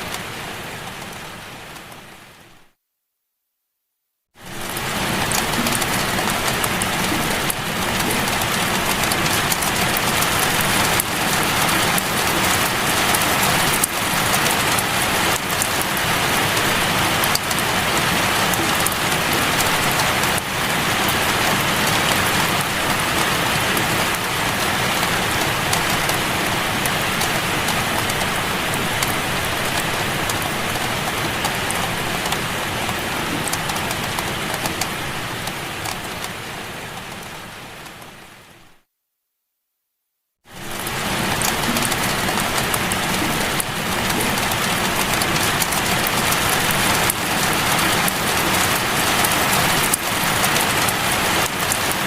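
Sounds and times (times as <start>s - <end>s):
steady rain: 0.0s - 2.8s, 4.4s - 38.9s, 40.4s - 52.0s.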